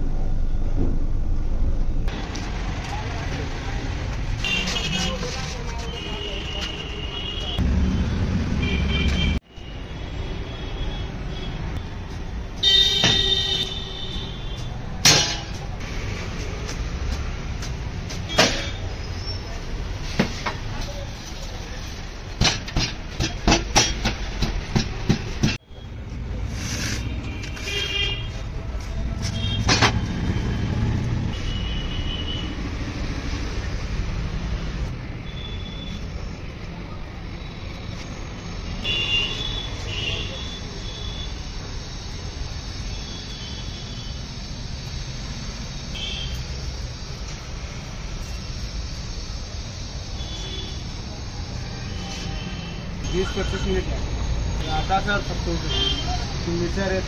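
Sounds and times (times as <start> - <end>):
street background rumble: 0.0 - 57.0.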